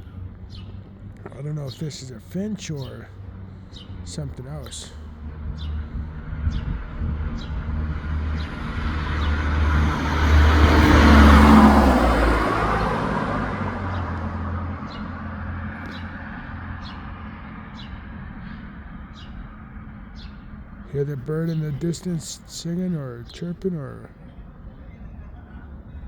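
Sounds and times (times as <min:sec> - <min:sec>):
vehicle passing by: 0:00.0 - 0:24.1.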